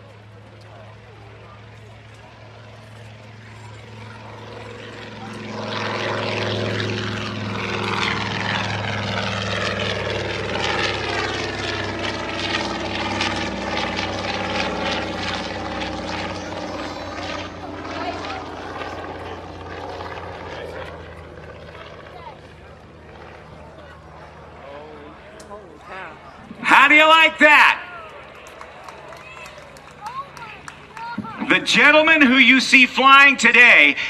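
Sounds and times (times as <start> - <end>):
propeller plane flying past: 0.0 - 34.0.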